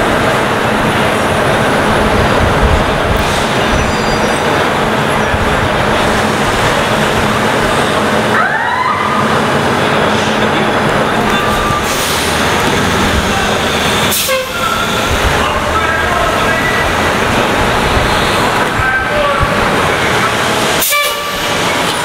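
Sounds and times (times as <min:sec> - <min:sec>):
bus and street traffic: 0:00.0 - 0:22.0.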